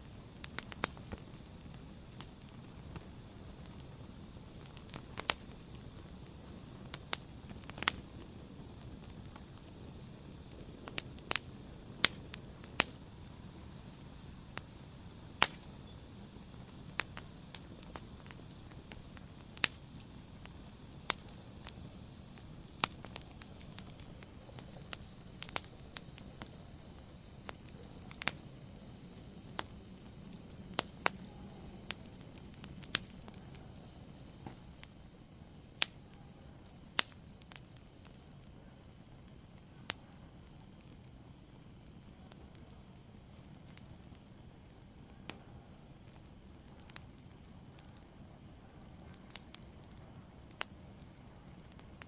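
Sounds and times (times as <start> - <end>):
low steady hiss: 0.0 - 52.0
wood fire crackling: 0.0 - 52.0.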